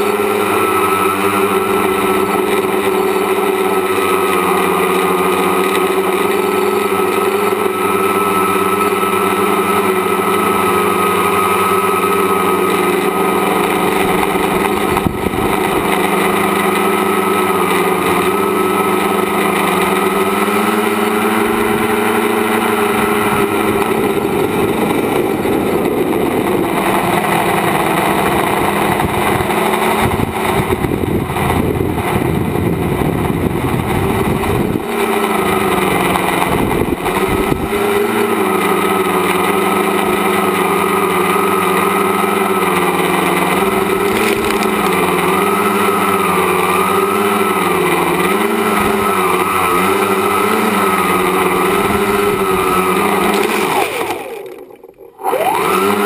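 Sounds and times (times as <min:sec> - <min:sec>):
electric motors and propellers whining: 0:00.0 - 0:56.0.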